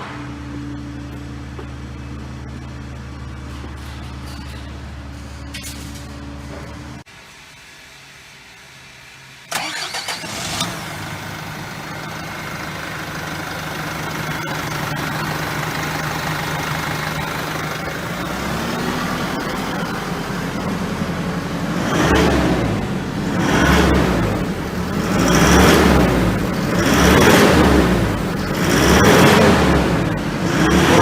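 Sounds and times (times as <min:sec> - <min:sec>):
diesel engine starting and idling: 0:00.0 - 0:07.1, 0:09.0 - 0:31.0.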